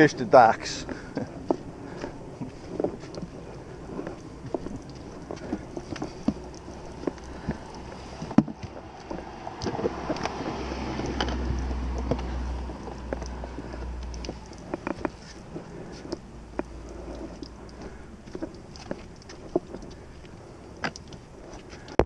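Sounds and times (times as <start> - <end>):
hands knocking and rubbing metal boat: 0.6 - 21.9.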